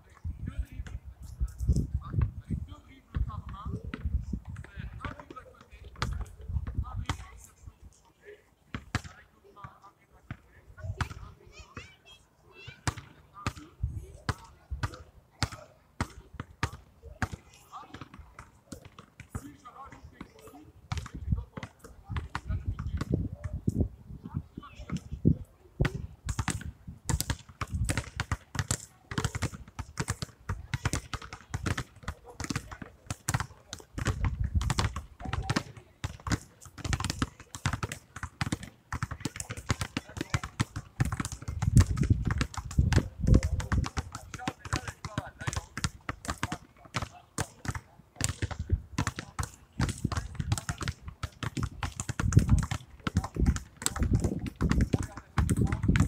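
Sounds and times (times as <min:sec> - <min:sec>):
basketballs bouncing on asphalt: 0:00.0 - 0:01.1, 0:01.7 - 0:56.0.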